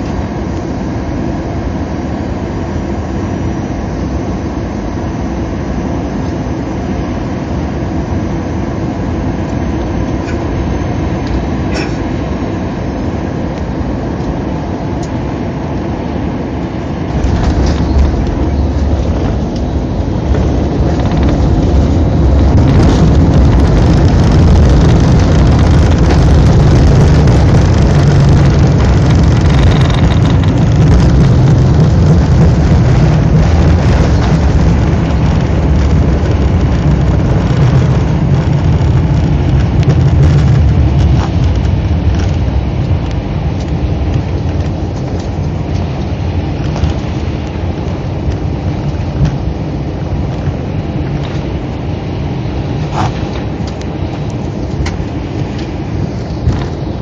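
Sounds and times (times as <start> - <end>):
jet engines and wheels rumbling: 0.0 - 57.0.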